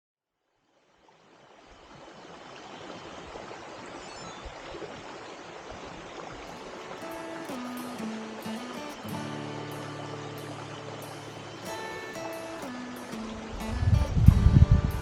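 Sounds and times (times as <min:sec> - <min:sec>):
stream water rushing: 0:00.7 - 0:15.0.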